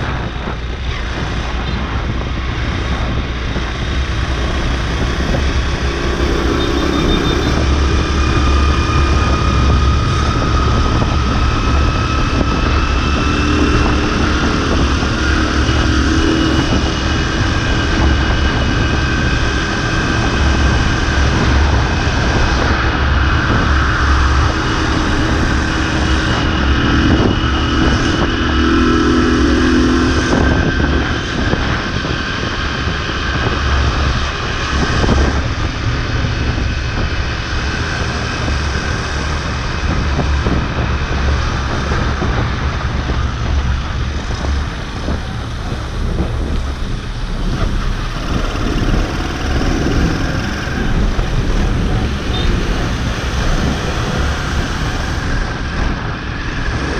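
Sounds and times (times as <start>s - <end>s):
motorbike engine cruising: 0.0s - 56.9s
wind rumble on microphone: 0.0s - 56.9s.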